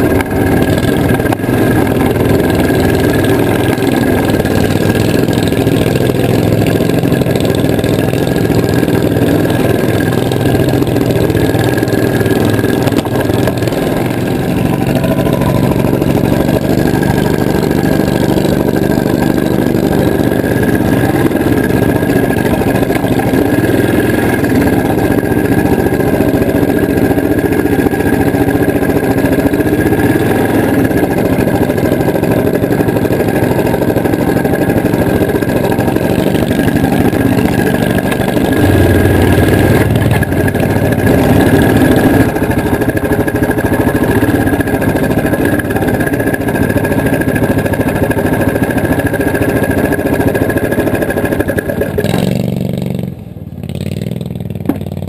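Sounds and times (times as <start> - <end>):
steady high whine: 0.0 - 52.0
atv engine running: 0.0 - 55.0.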